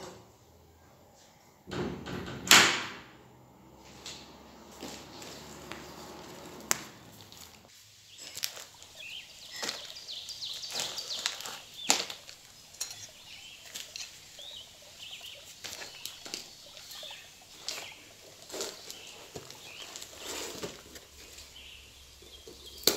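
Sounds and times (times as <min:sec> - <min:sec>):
small birds chirping: 0:04.2 - 0:22.9.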